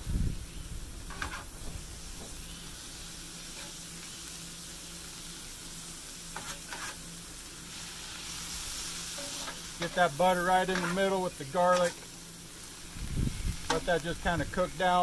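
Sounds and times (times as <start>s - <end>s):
vegetables sizzling on griddle: 0.0s - 15.0s.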